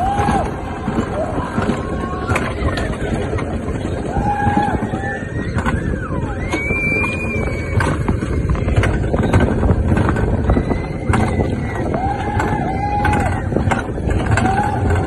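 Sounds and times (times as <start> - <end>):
sled wheels rumbling on rail: 0.0 - 15.0.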